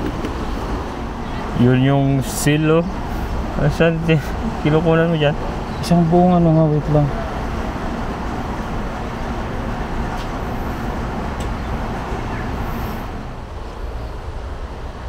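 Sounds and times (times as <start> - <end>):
background rumble and hiss: 0.0 - 15.0.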